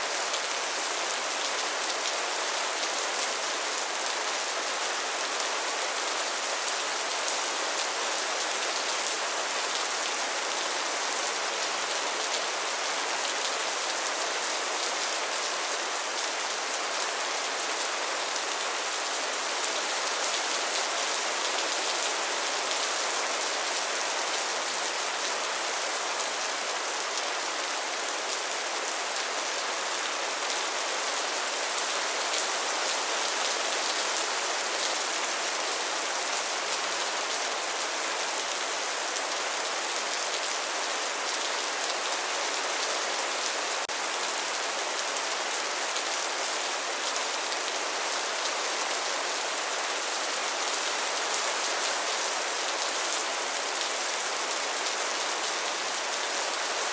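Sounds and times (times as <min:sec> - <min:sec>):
rain falling on a surface: 0:00.0 - 0:56.9.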